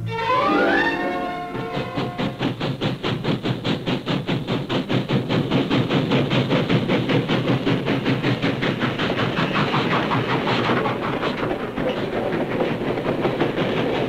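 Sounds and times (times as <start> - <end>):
steam locomotive exhaust beat: 0.0 - 14.0
steam hissing: 0.4 - 14.0.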